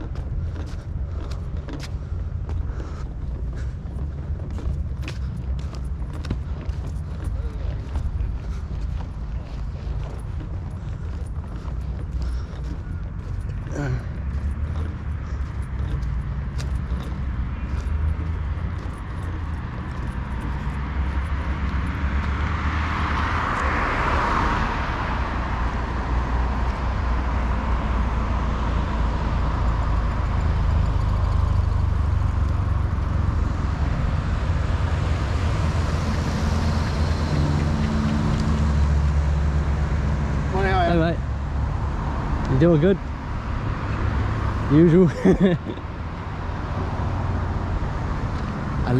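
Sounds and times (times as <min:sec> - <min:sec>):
car engine and tyre rumble: 0:00.0 - 0:48.9
vehicle passing: 0:00.0 - 0:48.9.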